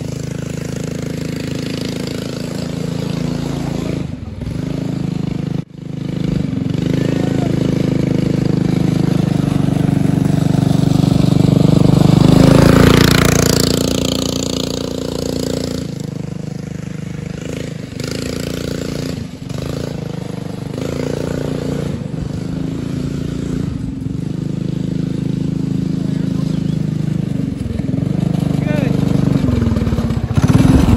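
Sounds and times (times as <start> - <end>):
small engine running: 0.0 - 30.9.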